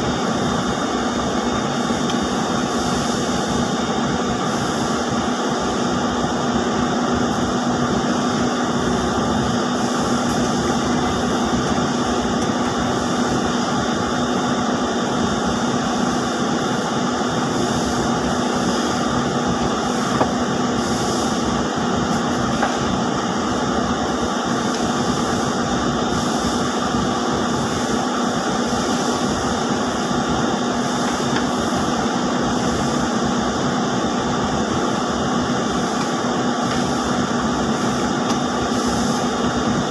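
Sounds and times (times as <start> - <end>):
spinning machinery hum and hiss: 0.0 - 39.9.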